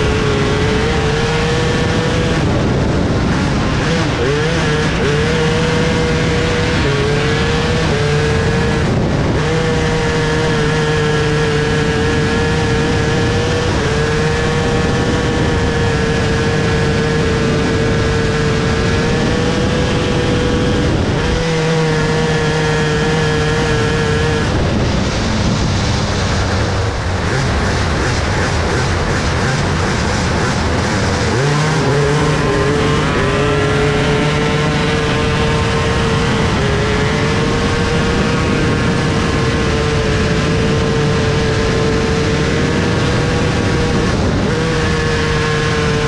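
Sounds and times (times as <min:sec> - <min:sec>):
motorcycle engine at high revs: 0:00.0 - 0:46.0
rush of wind and dirt: 0:00.0 - 0:46.0.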